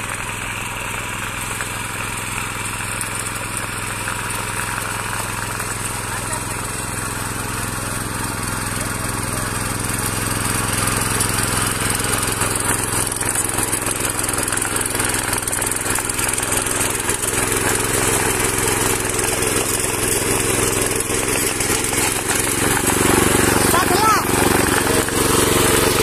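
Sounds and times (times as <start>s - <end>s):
small tiller engine running: 0.0s - 26.0s
tines churning soil: 0.0s - 26.0s.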